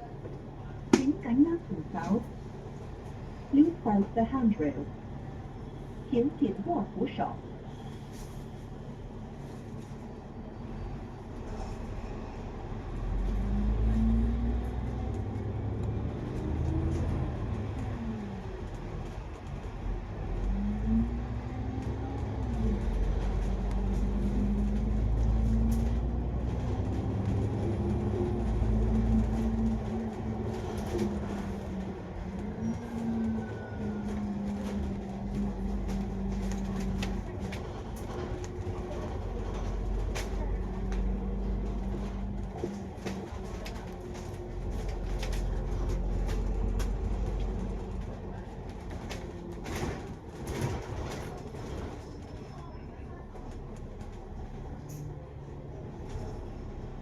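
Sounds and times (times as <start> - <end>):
bus engine shifting gears: 5.5 - 52.7.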